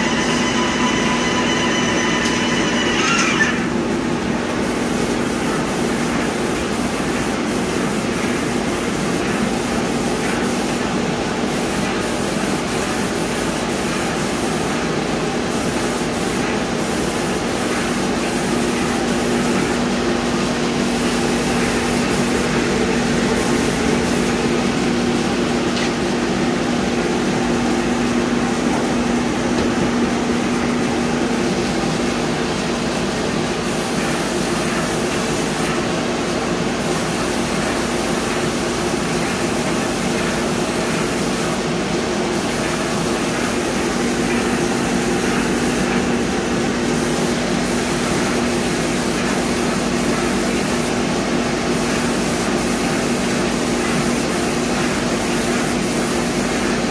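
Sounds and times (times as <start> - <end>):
paint sprayer humming: 0.0 - 56.9
spray gun hissing: 3.5 - 29.5, 33.5 - 56.9.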